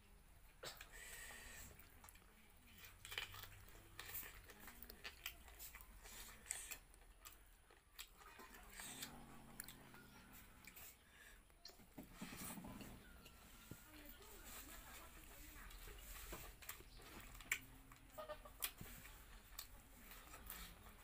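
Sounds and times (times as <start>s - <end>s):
person chewing food: 0.5s - 13.8s, 16.1s - 21.0s.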